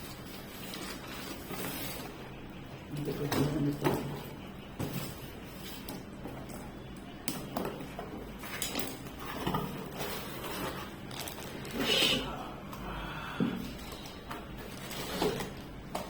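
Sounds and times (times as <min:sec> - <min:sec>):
plastic parts and packaging rustling: 0:00.0 - 0:12.8, 0:13.6 - 0:16.0.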